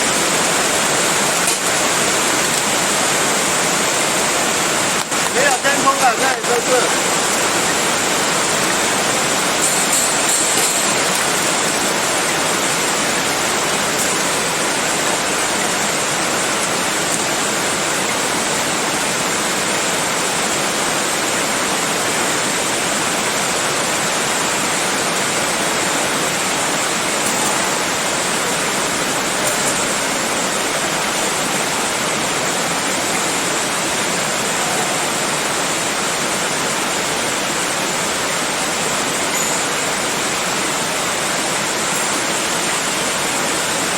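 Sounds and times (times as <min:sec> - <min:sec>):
steady hiss with high whine: 0:00.0 - 0:43.9.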